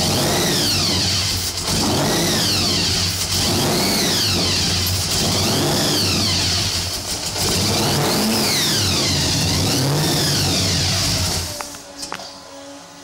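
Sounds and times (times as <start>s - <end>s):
engine idling with surging revs: 0.0s - 11.7s
supercharger whine: 0.0s - 13.0s.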